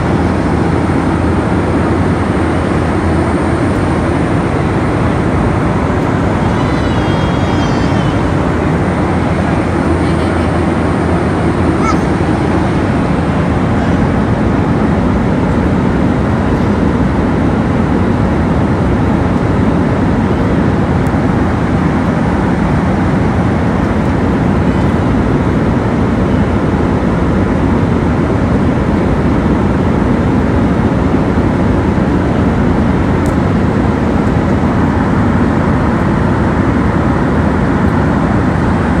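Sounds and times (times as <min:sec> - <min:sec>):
airliner cabin noise: 0:00.0 - 0:39.0.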